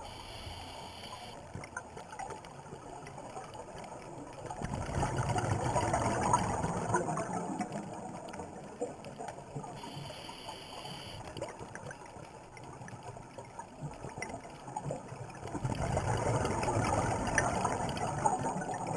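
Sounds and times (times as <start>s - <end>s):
underwater exhaust bubbles gurgling: 0.0s - 18.9s.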